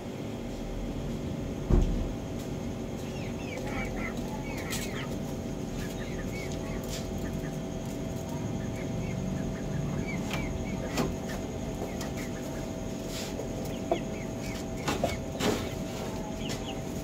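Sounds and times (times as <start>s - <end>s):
background hum: 0.0s - 17.0s
chickens clucking: 2.5s - 17.0s
chicken calls: 2.8s - 17.0s.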